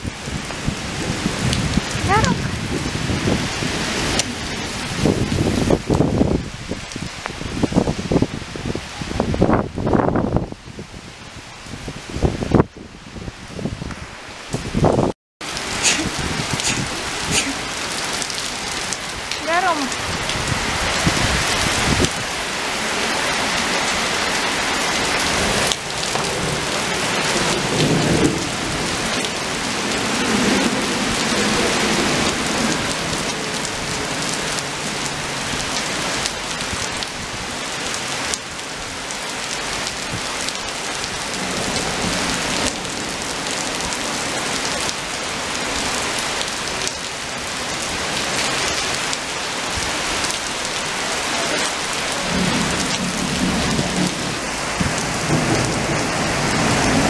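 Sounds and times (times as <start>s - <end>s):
rain on asphalt and bushes: 0.0s - 57.0s.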